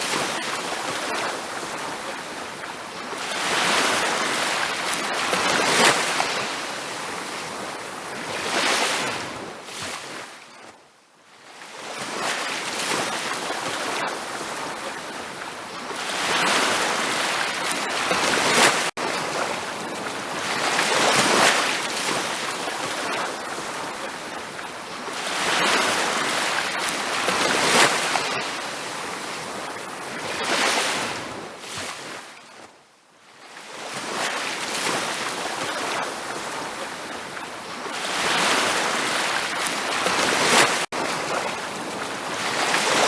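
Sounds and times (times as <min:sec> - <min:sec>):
ocean waves breaking on beach: 0:00.0 - 0:43.0.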